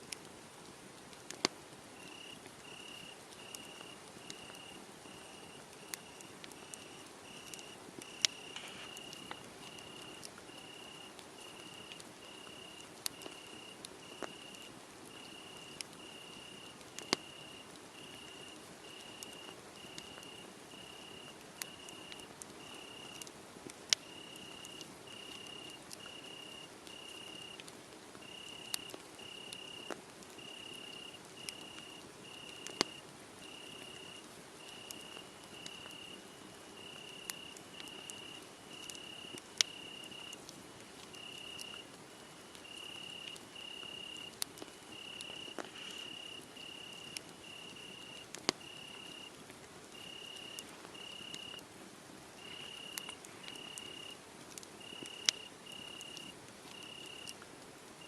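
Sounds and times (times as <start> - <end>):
wood fire crackling and popping: 0.1 - 51.6, 52.4 - 58.0
crickets chirping: 2.0 - 23.2, 24.0 - 27.6, 28.2 - 40.4, 41.2 - 49.3, 49.9 - 51.6, 52.4 - 54.2, 54.8 - 57.4.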